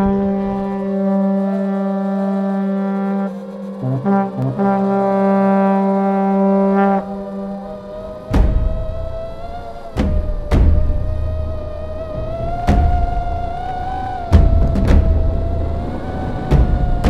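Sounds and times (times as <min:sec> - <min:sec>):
background music low held note: 0:00.0 - 0:17.0.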